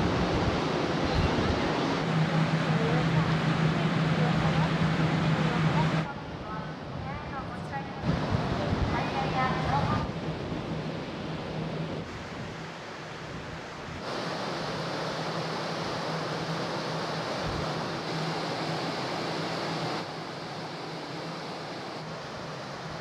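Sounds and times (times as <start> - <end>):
wind buffeting microphone: 0.0 - 20.0
faint low ship hum: 0.0 - 23.0
sea water rushing along hull: 0.0 - 23.0.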